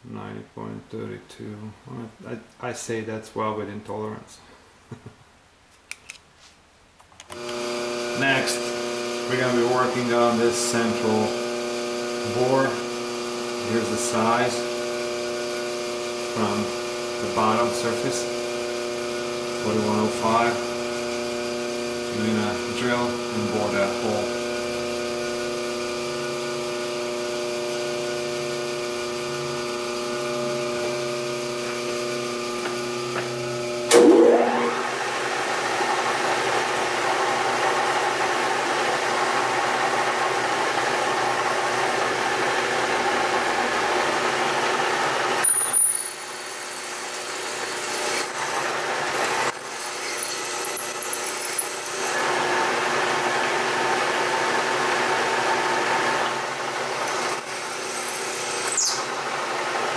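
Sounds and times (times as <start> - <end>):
milling machine motor hum: 7.4 - 45.5, 46.3 - 59.9
drill cutting into aluminium: 7.4 - 59.3.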